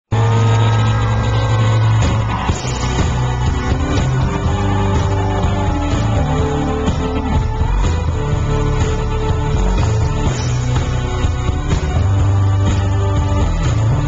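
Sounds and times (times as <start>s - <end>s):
heavy sustained synth bass: 0.1s - 14.0s
synth-pop song over loudspeakers: 0.1s - 14.0s.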